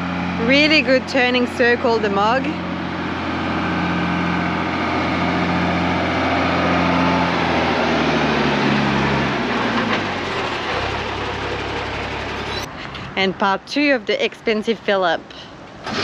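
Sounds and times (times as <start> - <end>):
diesel truck passing by: 0.0 - 13.2.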